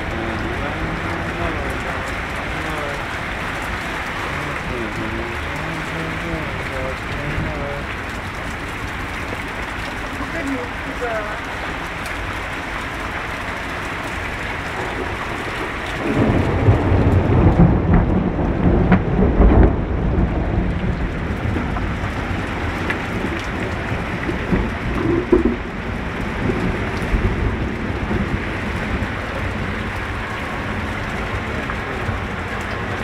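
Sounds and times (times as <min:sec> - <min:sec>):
steady rain: 0:00.0 - 0:33.0
thunder rumbling: 0:00.0 - 0:33.0.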